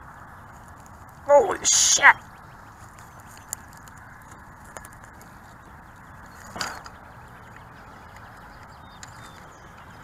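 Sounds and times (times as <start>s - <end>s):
dry grass rustling: 0.0s - 10.0s.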